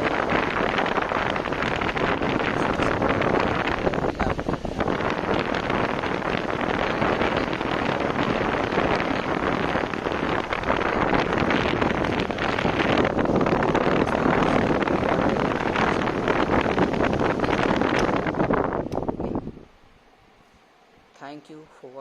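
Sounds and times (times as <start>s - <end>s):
fan airflow buffeting microphone: 0.0s - 22.0s.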